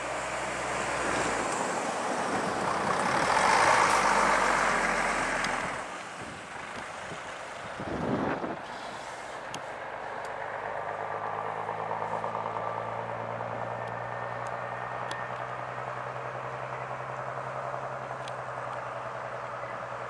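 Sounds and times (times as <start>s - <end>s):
diesel bus engines humming: 0.0s - 20.0s.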